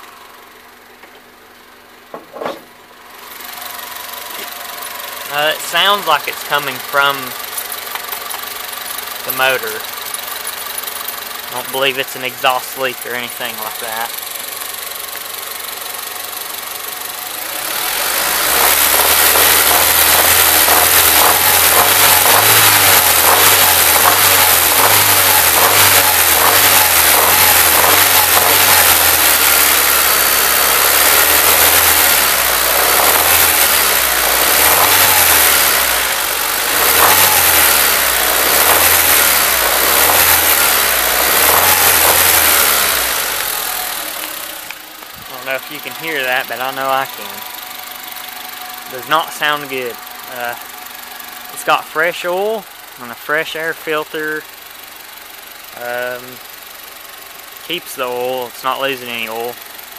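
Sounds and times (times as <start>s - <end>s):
car engine revving: 3.1s - 59.8s
rapid engine knocking: 3.8s - 59.9s.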